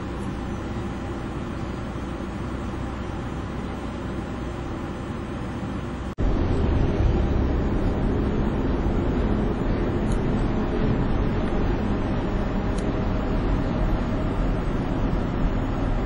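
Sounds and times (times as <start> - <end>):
highway traffic: 0.0 - 16.0
vehicle engine noise: 0.0 - 16.0.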